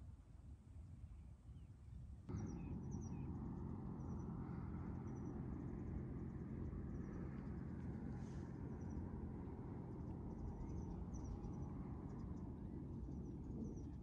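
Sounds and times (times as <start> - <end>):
wind rumble on microphone: 0.0 - 14.0
small birds chirping: 2.3 - 14.0.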